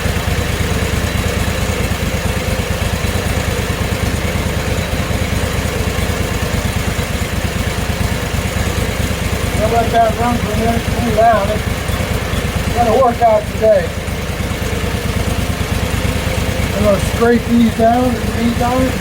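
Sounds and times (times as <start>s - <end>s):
small gasoline engine idling: 0.0s - 19.0s.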